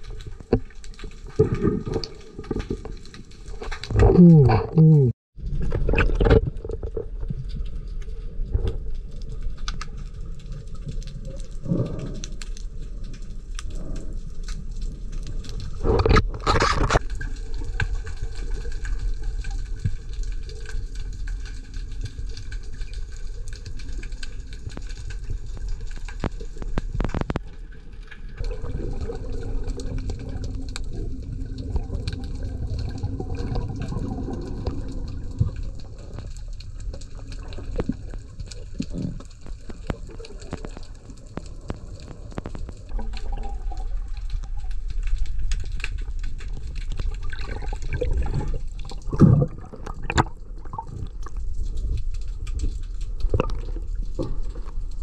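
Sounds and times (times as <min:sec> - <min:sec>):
underwater rumble and hiss: 0:00.0 - 0:04.7, 0:05.4 - 0:55.0
fine crackling underwater: 0:00.0 - 0:55.0.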